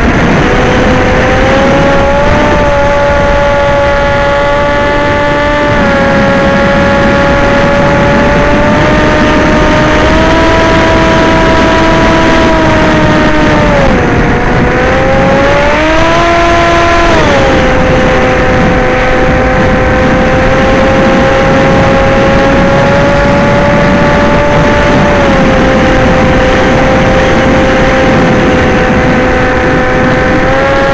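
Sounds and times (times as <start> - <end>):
electric motor and propeller whine: 0.0 - 30.9
steady rushing noise: 0.0 - 30.9.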